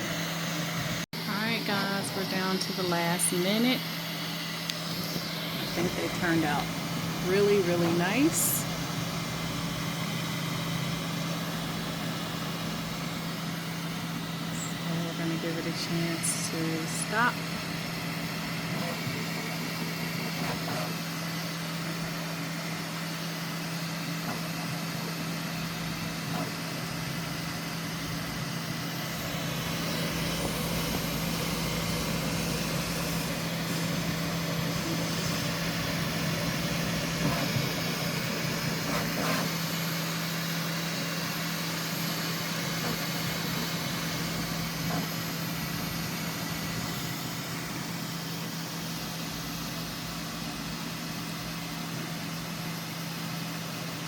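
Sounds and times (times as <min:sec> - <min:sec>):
printer fan hum and whir: 0:00.0 - 0:54.0.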